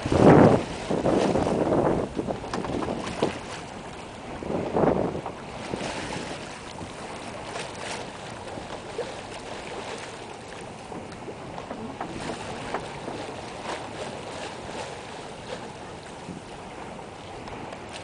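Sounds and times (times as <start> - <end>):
water washing along hull: 0.0 - 18.0
wind buffeting microphone: 0.0 - 18.0.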